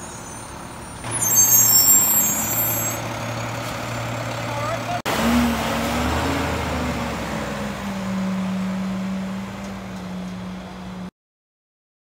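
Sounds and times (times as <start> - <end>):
diesel truck engine: 0.0 - 11.1
road noise: 0.0 - 11.1.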